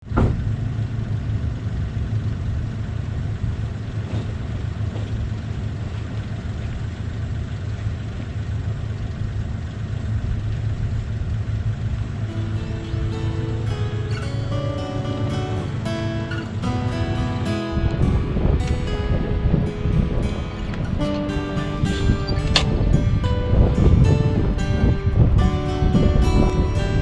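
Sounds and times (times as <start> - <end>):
car engine running: 0.1 - 27.0.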